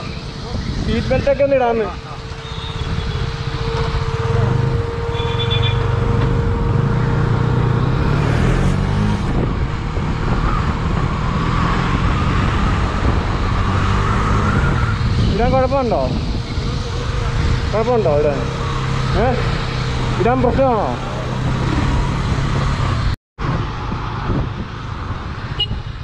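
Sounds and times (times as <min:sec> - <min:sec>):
motorcycle engine revving: 0:00.0 - 0:23.2
wind rushing over microphone: 0:00.0 - 0:26.0.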